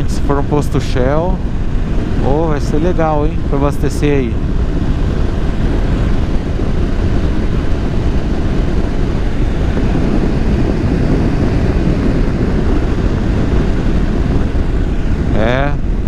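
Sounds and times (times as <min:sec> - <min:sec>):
motorcycle road noise: 0:00.0 - 0:16.0
wind buffeting microphone: 0:00.0 - 0:16.0
wind rush: 0:00.0 - 0:16.0.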